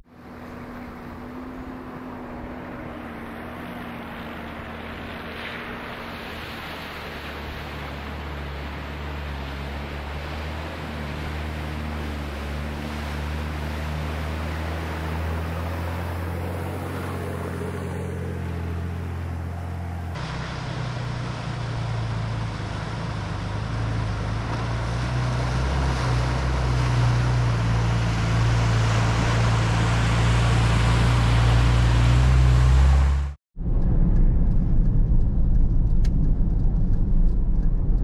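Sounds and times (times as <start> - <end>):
road noise: 0.0 - 38.0
vehicle engine hum: 0.0 - 38.0.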